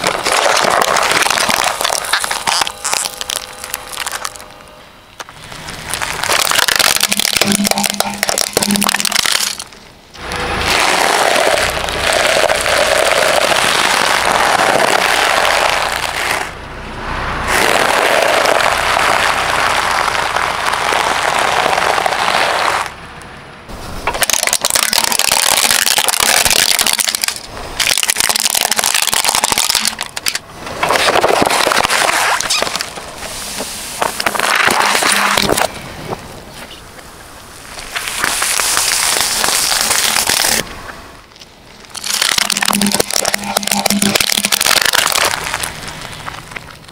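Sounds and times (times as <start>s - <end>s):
car tyre crushing objects: 0.0s - 16.6s, 17.3s - 23.0s, 23.6s - 46.9s.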